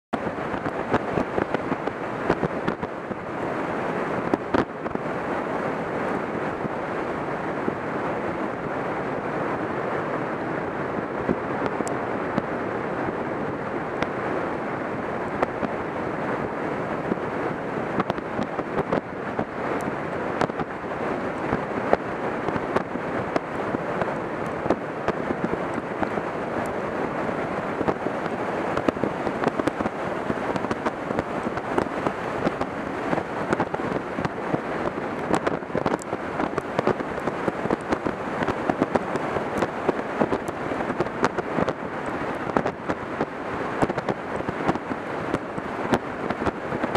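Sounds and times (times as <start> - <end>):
heavy rain falling: 0.1 - 46.9.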